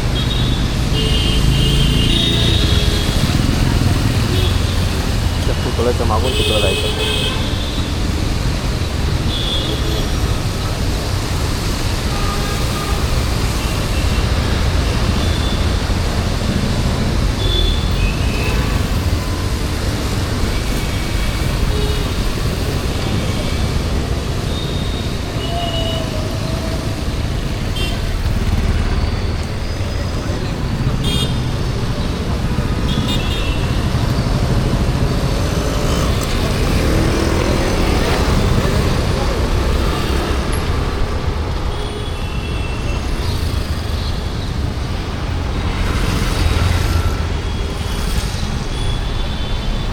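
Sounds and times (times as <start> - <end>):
city traffic rumble: 0.0 - 49.9.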